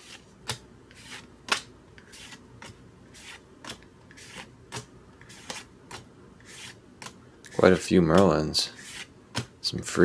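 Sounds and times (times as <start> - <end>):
cards being flipped through: 0.0 - 8.2.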